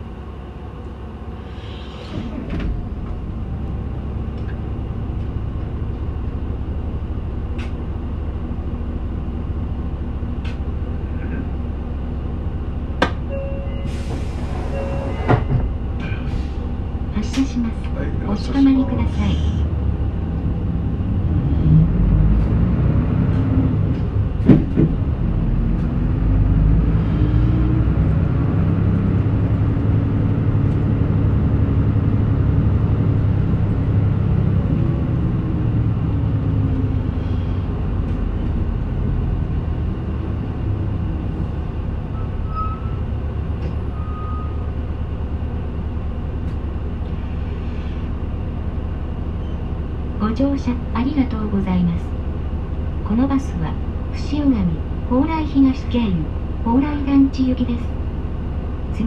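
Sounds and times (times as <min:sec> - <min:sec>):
bus diesel engine pulling: 0:00.0 - 0:59.0.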